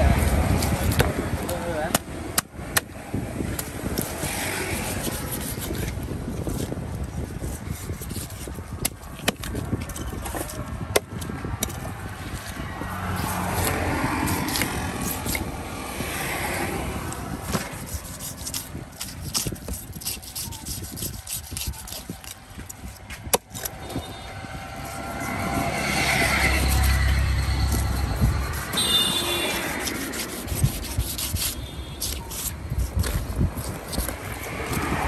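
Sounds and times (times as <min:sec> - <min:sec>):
knife scraping fish scales: 0:00.0 - 0:35.0.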